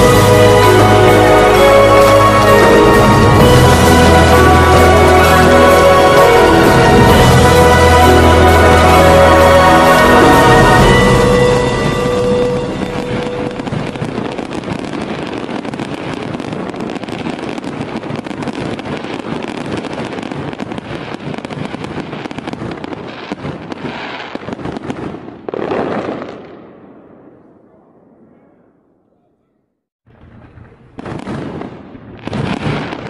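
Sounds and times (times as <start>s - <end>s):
firecrackers crackling: 0.0s - 28.3s, 30.1s - 33.0s
loud firework burst: 0.0s - 28.4s, 30.1s - 33.0s.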